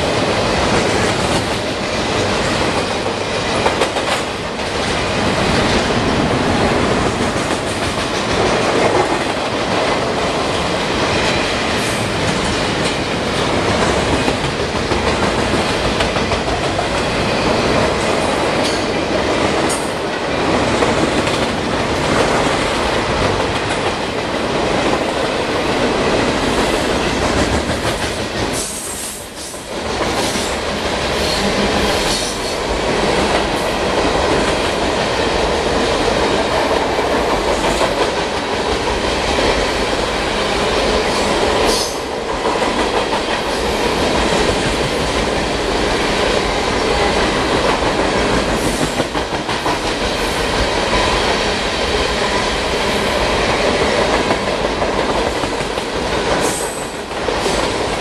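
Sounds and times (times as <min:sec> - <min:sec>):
train wheels clattering: 0:00.0 - 0:58.0.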